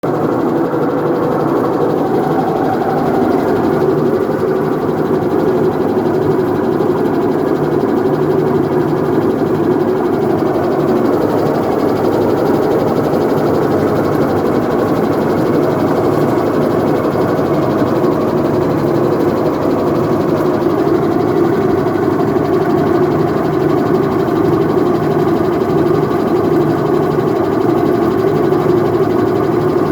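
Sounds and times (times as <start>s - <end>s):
washing machine mechanical drone: 0.0s - 29.9s.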